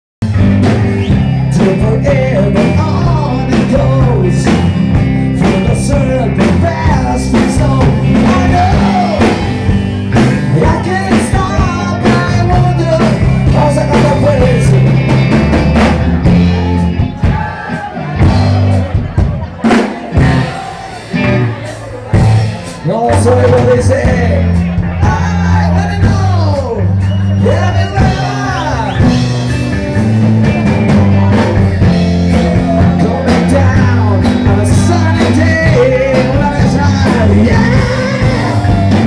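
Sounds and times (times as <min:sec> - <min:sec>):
bass guitar: 0:00.2 - 0:39.0
drum kit: 0:00.2 - 0:39.0
electric guitar: 0:00.2 - 0:39.0
person singing: 0:01.1 - 0:09.7, 0:10.4 - 0:15.0, 0:16.4 - 0:29.3, 0:30.5 - 0:39.0.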